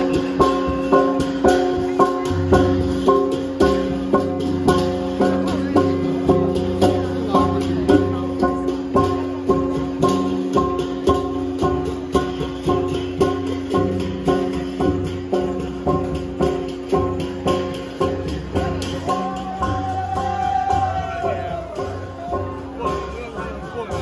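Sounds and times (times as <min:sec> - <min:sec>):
low drum beat: 0:00.0 - 0:24.0.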